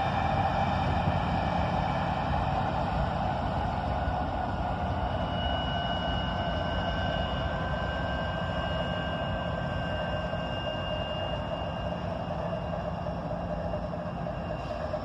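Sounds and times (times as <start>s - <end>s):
diesel locomotive low rumble: 0.0s - 15.0s
high-pitched whine: 0.0s - 15.0s.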